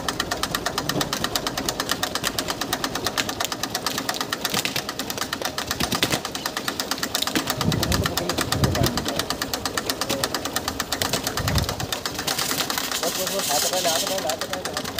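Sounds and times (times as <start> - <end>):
tractor diesel engine idling: 0.0 - 14.9.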